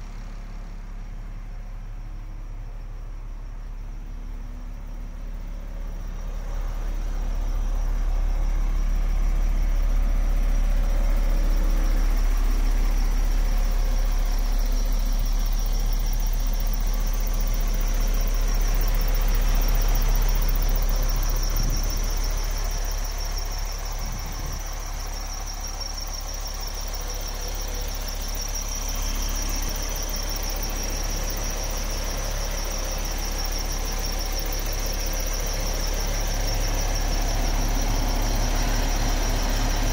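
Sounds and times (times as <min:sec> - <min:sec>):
diesel truck engine idling: 0:00.0 - 0:39.9
high-pitched whine: 0:04.4 - 0:39.9.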